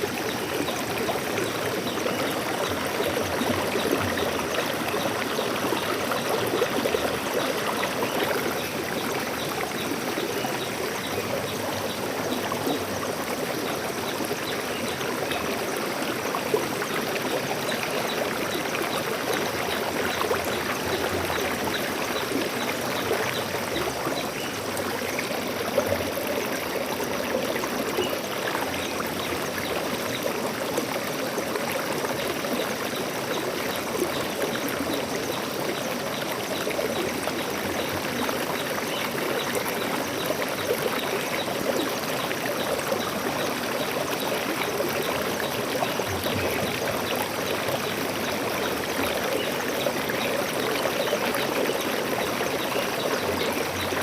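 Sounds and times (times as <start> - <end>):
stream water flowing over rocks: 0.0 - 54.0.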